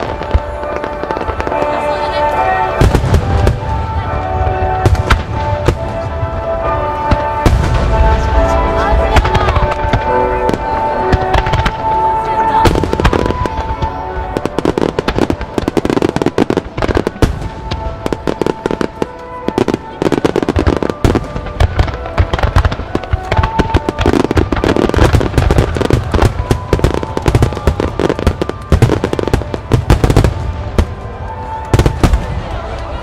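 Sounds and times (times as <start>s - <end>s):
fireworks bursting and crackling: 0.0s - 33.0s
orchestral music: 0.0s - 33.0s.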